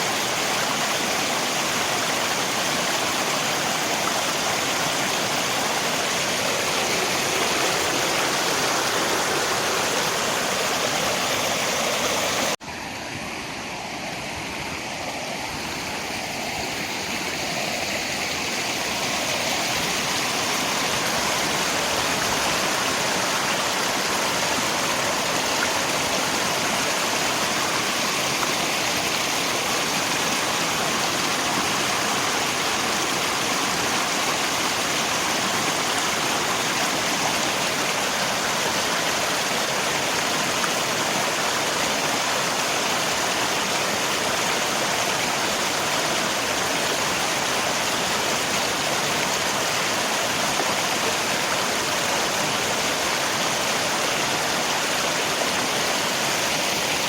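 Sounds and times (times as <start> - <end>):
rain: 0.0 - 12.6, 13.2 - 57.0
river water rushing: 0.0 - 57.0.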